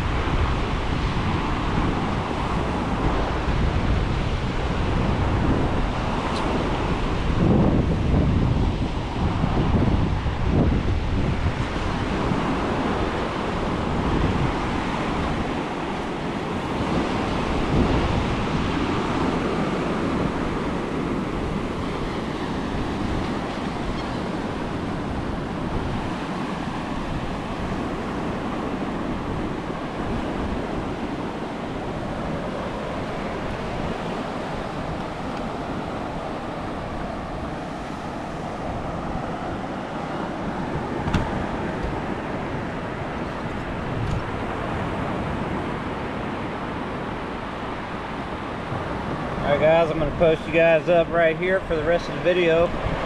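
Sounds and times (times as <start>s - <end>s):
ocean surf washing onto beach: 0.0s - 53.0s
wind rumbling on microphone: 0.0s - 53.0s.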